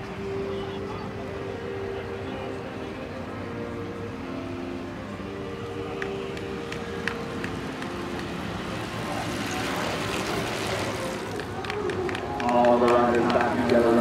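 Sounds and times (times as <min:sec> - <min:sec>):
bicycle tyres and wind rushing: 0:00.0 - 0:14.0.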